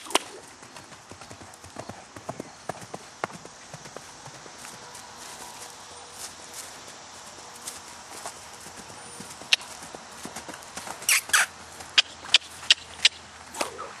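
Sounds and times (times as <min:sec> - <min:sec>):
horse hooves on hard ground: 0:00.0 - 0:13.2.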